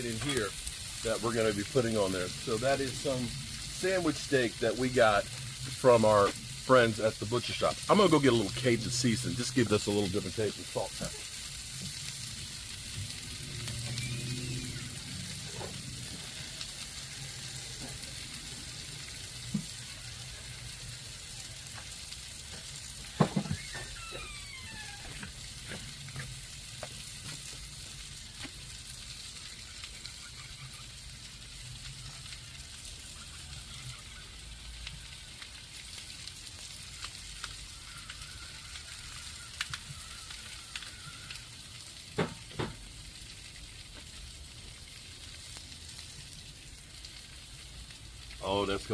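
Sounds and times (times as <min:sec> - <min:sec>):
potatoes and onions sizzling: 0:00.0 - 0:48.9.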